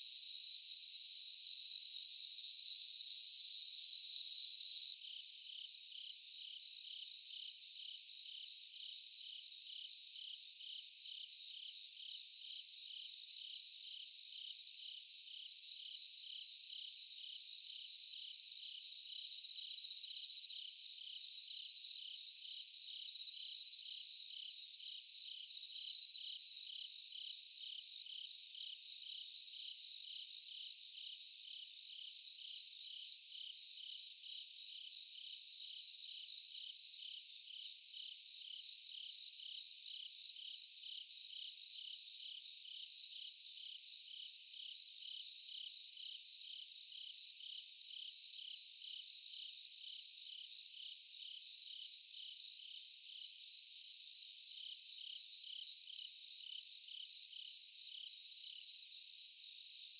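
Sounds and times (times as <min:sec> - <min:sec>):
high continuous insect ringing: 0:00.0 - 0:59.9.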